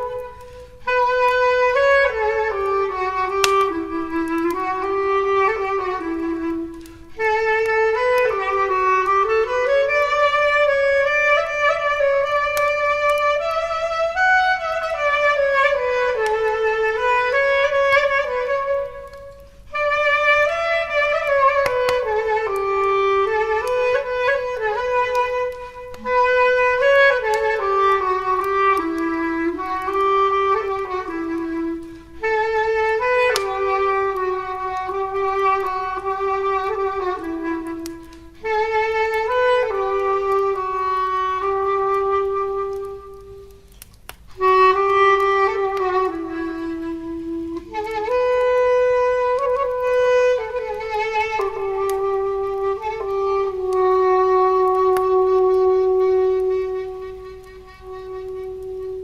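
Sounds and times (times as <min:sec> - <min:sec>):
clarinet melody: 0:00.0 - 0:59.0
wood fire crackling: 0:00.0 - 0:59.0.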